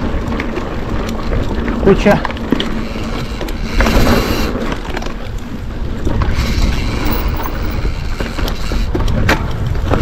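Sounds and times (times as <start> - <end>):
bike clicks and rattles: 0.0 - 10.0
tyres on dirt: 0.0 - 10.0
wind rumble on microphone: 0.0 - 10.0.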